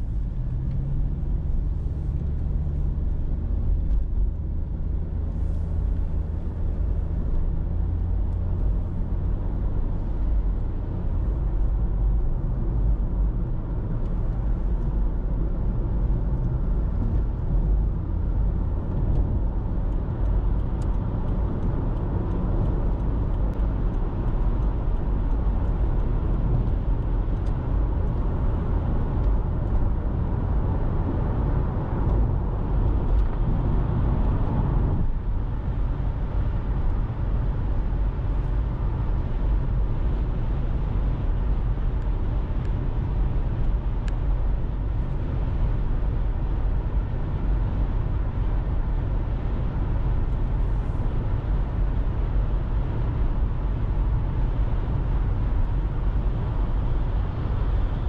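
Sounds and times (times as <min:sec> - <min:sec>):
car driving road noise: 0:00.0 - 0:58.0.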